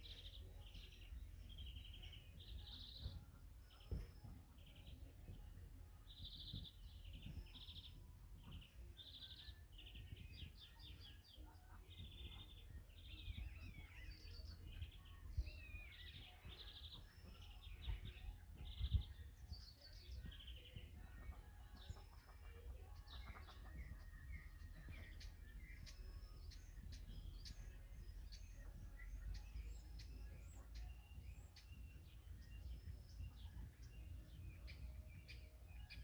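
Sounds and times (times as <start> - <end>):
songbirds singing and chirping: 0.0 - 36.0.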